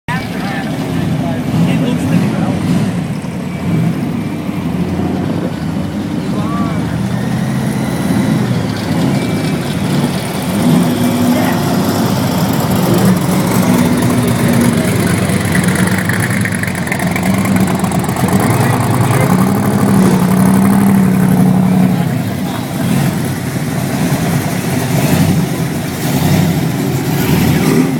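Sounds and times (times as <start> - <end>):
car engines revving: 0.1 - 27.9.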